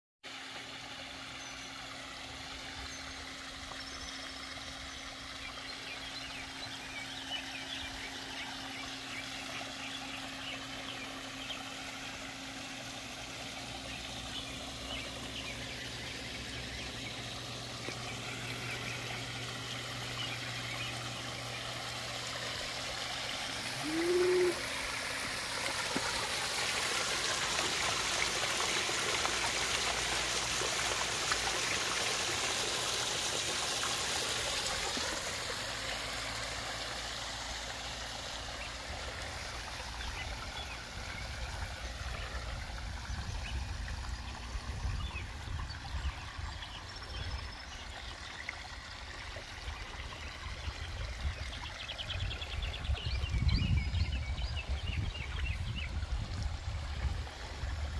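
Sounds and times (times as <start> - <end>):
small waterfall splashing: 0.2 - 57.9.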